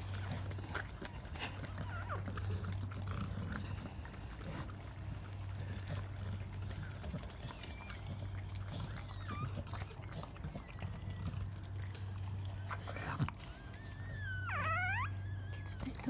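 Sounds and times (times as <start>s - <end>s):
dog licking wetly: 0.0s - 14.6s
steady low hum: 0.0s - 16.0s.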